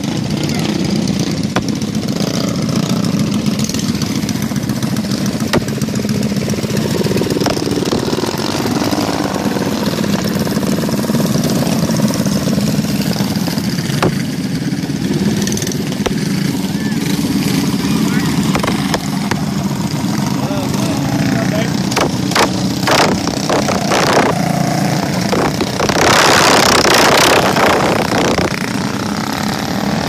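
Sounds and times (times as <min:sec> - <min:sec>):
mini bike engines idling: 0:00.0 - 0:30.0.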